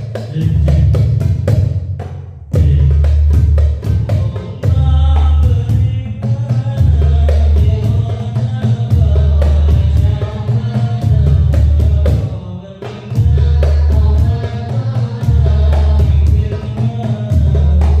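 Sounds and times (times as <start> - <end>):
frame drums and bass drum: 0.0 - 18.0.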